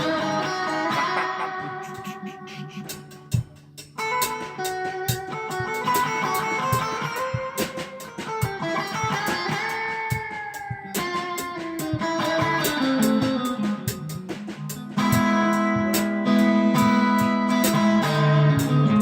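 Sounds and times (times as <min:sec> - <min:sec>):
drum kit with cymbal hits: 0:00.0 - 0:19.0
guitar: 0:00.0 - 0:19.0.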